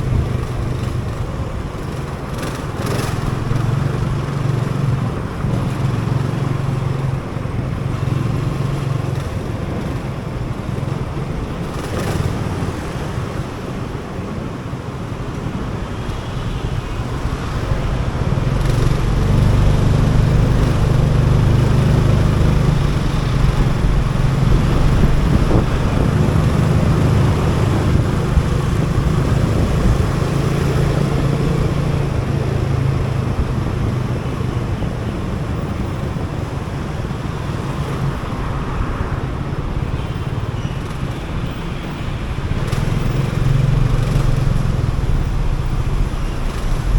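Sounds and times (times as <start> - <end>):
motorcycle engine running: 0.0 - 46.9
road and traffic noise: 0.0 - 46.9.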